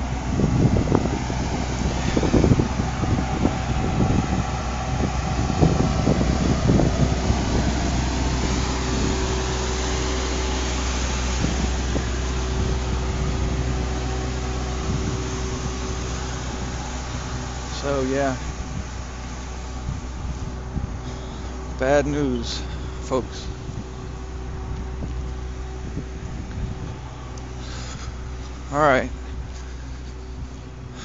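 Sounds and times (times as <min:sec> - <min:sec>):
car cabin hum: 0:00.0 - 0:31.0.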